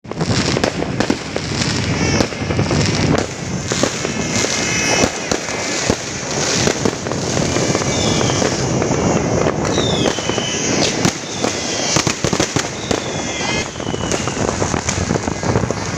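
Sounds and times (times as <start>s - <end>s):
fireworks banging and crackling: 0.0s - 15.9s.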